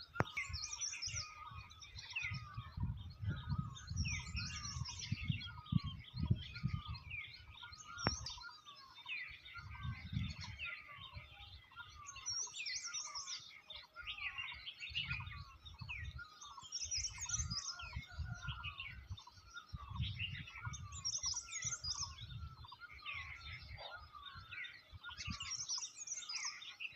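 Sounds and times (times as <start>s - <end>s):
birds singing and chirping: 0.0s - 26.9s.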